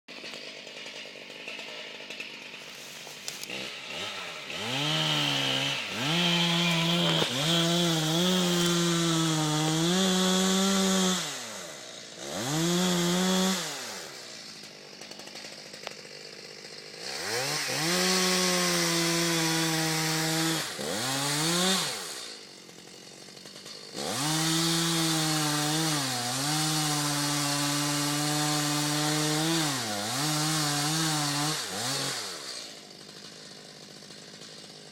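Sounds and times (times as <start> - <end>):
chainsaw revving: 0.1 - 34.9.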